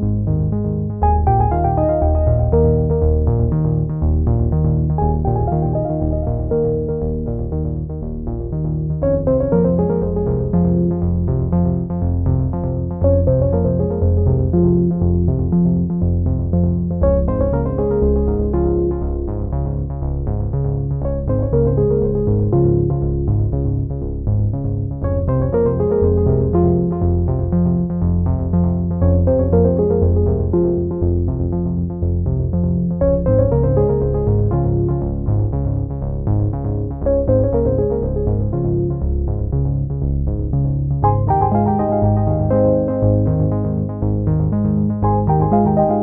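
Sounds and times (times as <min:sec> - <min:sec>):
synthesizer instrumental music: 0:00.0 - 0:24.2, 0:24.8 - 0:46.0.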